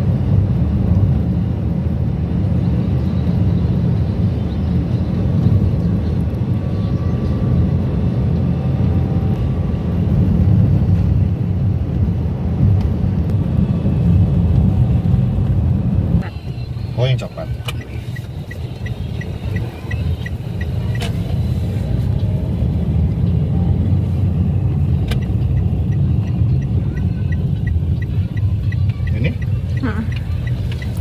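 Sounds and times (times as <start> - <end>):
car engine rumble inside cabin: 0.0 - 31.0.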